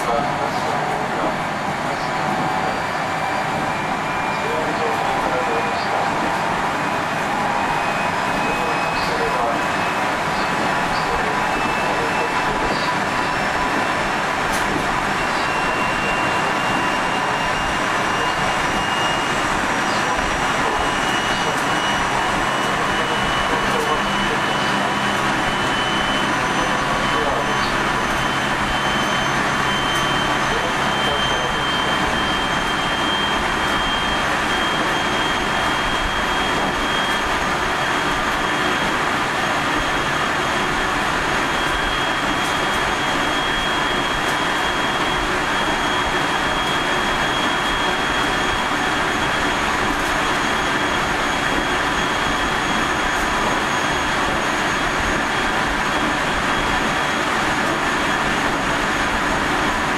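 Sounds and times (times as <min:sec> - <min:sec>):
high motor whine: 0:00.0 - 0:59.9
train wheels rumbling on rail: 0:00.0 - 0:59.9.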